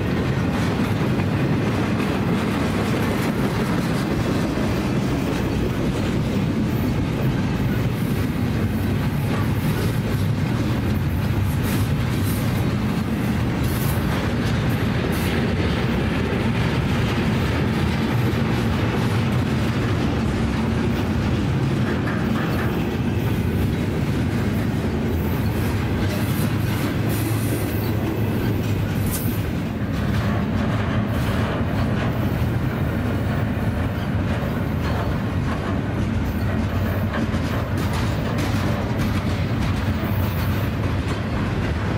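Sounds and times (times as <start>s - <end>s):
clacks over rail joints: 0.0s - 41.9s
train wheels rumbling on rail: 0.0s - 41.9s.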